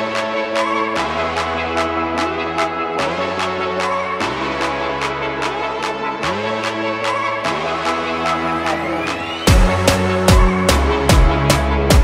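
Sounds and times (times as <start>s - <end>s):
electronic music with bass drop: 0.0s - 12.0s.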